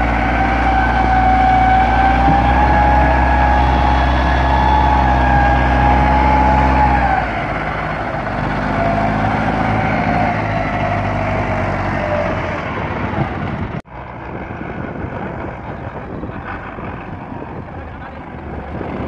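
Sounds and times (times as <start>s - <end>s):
distant tractor engine: 0.0s - 19.0s
tractor engine under heavy load: 0.0s - 19.0s.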